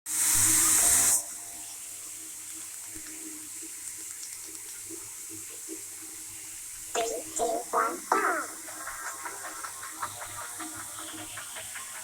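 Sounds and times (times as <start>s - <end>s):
shower water running: 0.1s - 12.0s.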